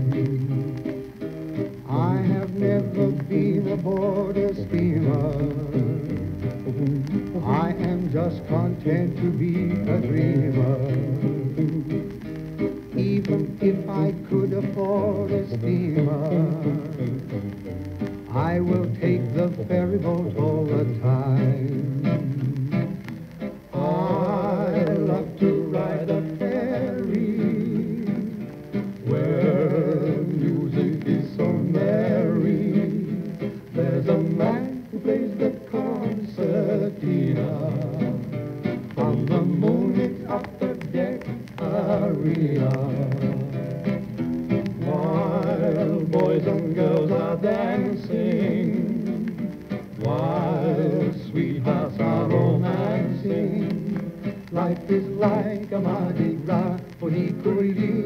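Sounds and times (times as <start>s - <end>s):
men singing duet with vibrato: 0.0s - 0.9s, 1.8s - 12.1s, 12.9s - 17.3s, 18.3s - 23.0s, 23.7s - 43.8s, 44.8s - 58.0s
guitar accompaniment: 0.0s - 58.0s.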